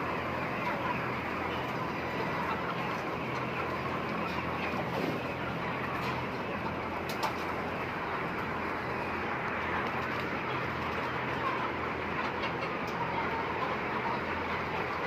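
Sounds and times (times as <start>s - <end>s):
chickens clucking and chattering: 0.0s - 15.0s.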